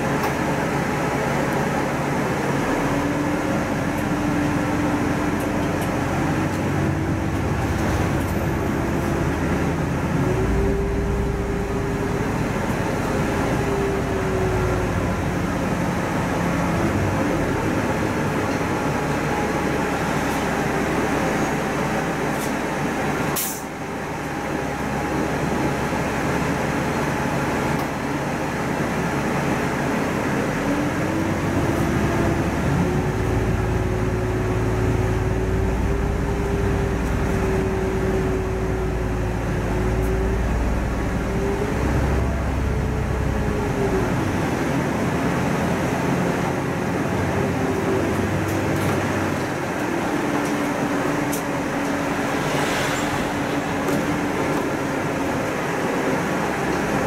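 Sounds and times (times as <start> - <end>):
city bus engine whine: 0.0 - 57.0
deep engine rumble: 0.0 - 57.0.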